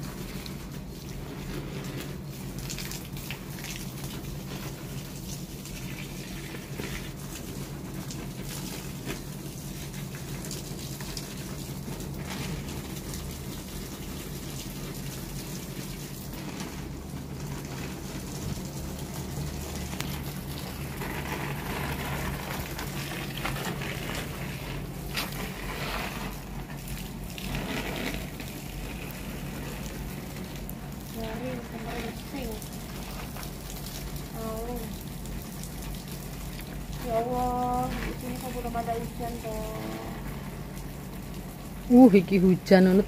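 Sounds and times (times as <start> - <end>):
hose spraying water on plants: 0.0 - 43.0.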